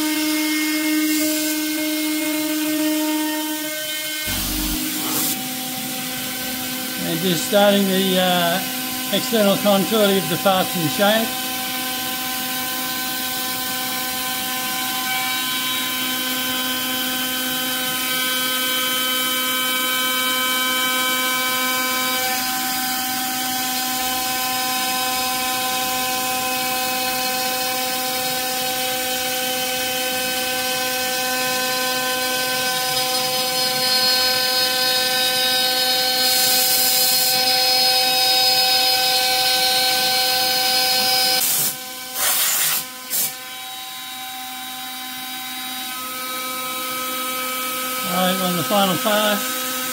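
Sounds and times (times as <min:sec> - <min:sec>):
cnc router spindle whining: 0:00.0 - 0:42.1, 0:43.4 - 0:49.9.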